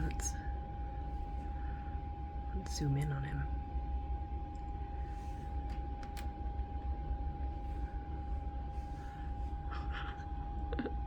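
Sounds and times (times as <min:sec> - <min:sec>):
heater low rumble: 0:00.0 - 0:11.0.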